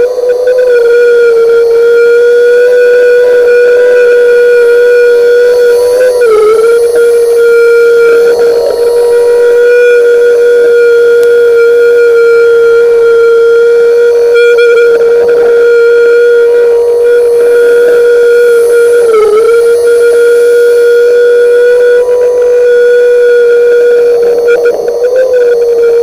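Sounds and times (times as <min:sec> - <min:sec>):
underwater grinder whine: 0:00.0 - 0:26.0.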